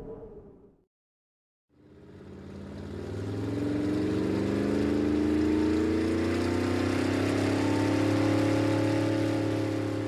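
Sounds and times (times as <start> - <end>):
vehicle engine approaching: 1.8 - 10.0.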